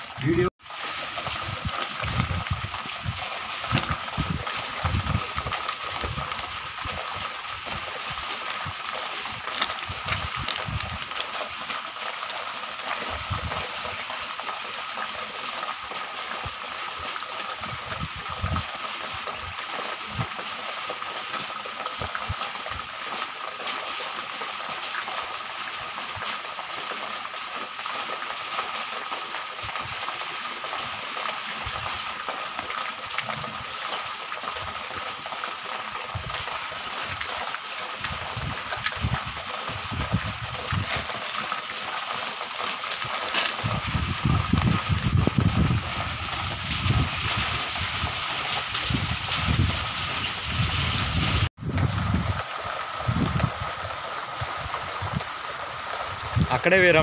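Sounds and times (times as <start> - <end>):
water drips and taps: 1.0 - 49.8.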